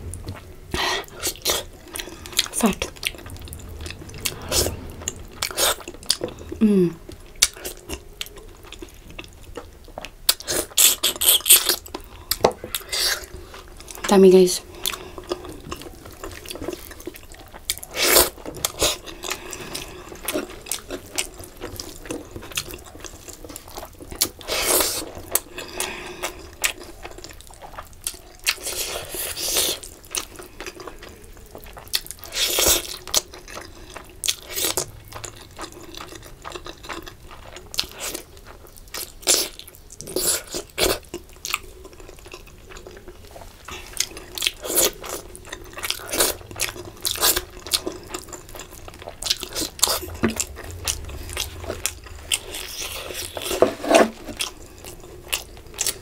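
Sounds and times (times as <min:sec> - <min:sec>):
chewing: 0:00.2 - 0:56.0.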